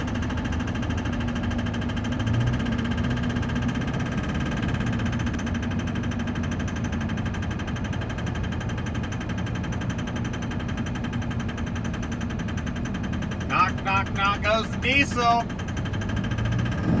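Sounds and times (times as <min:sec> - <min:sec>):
diesel engine clattering: 0:00.0 - 0:17.0.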